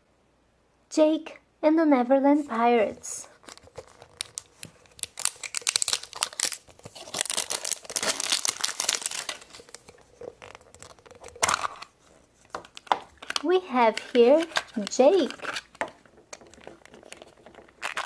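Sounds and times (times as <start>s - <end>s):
wrapper crinkling and tearing: 3.2s - 18.0s.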